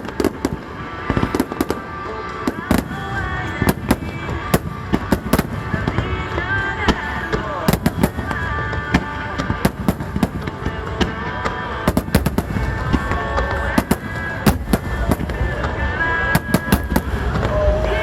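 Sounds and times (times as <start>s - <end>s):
fireworks bangs: 0.0s - 18.0s
music playing: 0.0s - 18.0s.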